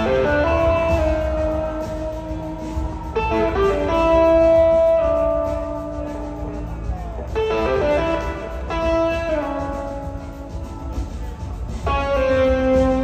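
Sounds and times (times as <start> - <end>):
electric slide guitar: 0.0 - 6.7, 7.3 - 11.1, 11.8 - 13.0
blues-rock band playing: 0.0 - 13.0.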